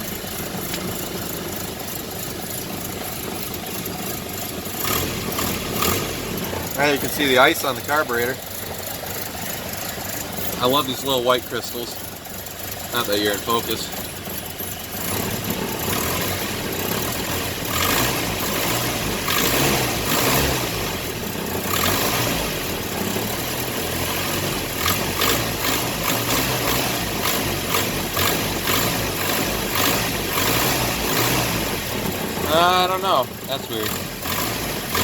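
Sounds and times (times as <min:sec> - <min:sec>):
car engine running: 0:00.0 - 0:35.0
engine tapping: 0:00.0 - 0:35.0.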